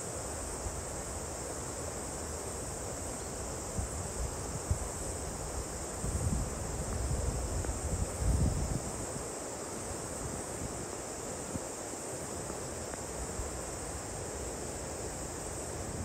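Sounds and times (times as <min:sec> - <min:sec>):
outdoor ambient hiss: 0:00.0 - 0:16.0.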